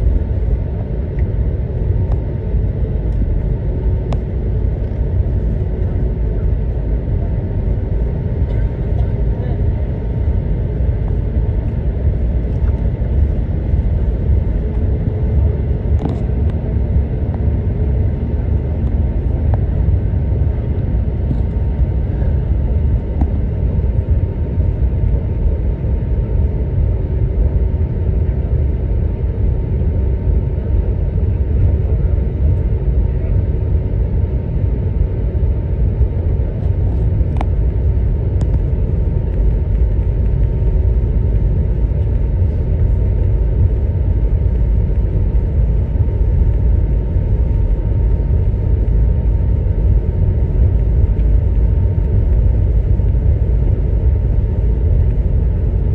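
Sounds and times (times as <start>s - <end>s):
airliner taxiing rumble: 0.0s - 55.9s.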